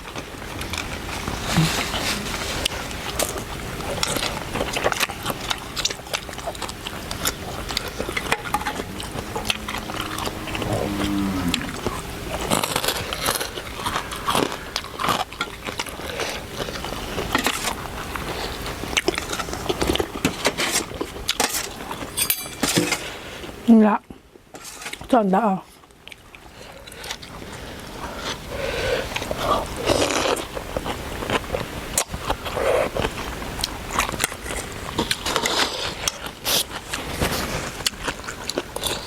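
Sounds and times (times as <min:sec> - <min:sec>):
chewing: 0:00.0 - 0:39.0.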